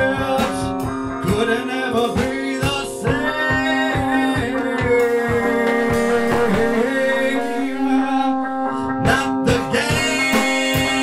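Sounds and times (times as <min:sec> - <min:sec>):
song with long held notes: 0:00.0 - 0:11.0.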